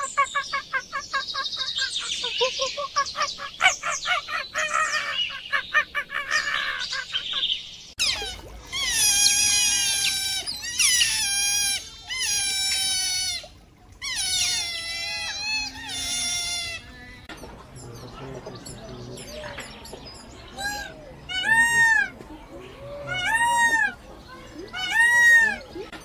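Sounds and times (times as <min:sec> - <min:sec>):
birds chirping and singing: 0:00.0 - 0:12.4, 0:14.1 - 0:26.0.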